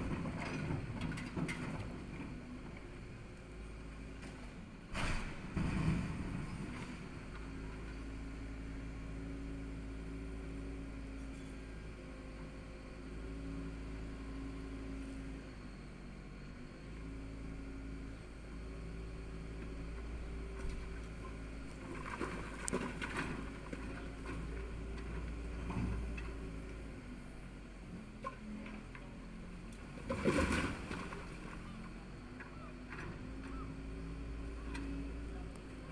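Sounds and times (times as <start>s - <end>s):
excavator engine running: 0.0s - 35.9s.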